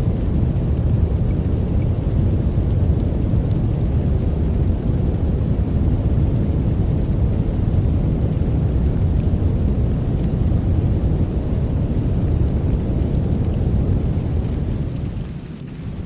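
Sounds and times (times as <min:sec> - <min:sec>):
deep rumbling noise: 0:00.0 - 0:16.0.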